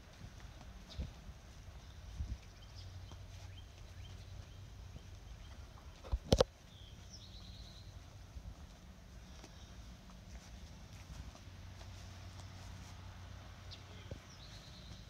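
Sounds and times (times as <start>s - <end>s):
birds chirping: 0.0s - 12.8s, 13.5s - 15.0s
footsteps walking: 0.0s - 15.0s.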